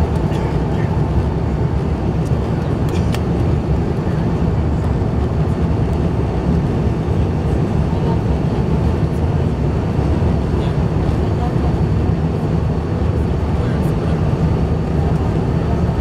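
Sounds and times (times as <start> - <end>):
aircraft cabin low rumble: 0.0 - 16.0.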